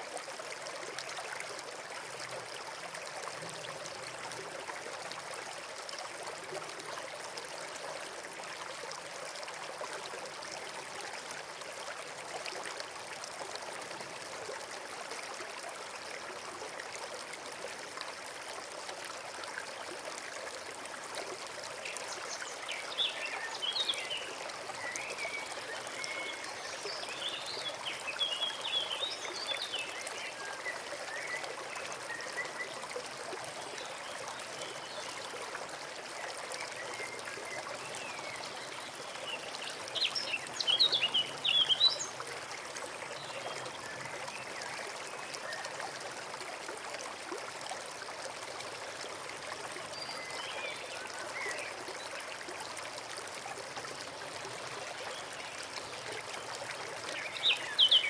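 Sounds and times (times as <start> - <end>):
stream flowing and trickling: 0.0 - 58.0.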